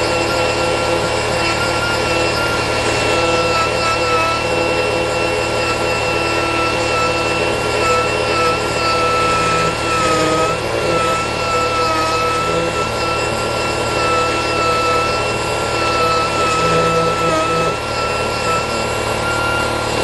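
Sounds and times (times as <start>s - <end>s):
air grinder whining: 0.0s - 20.0s.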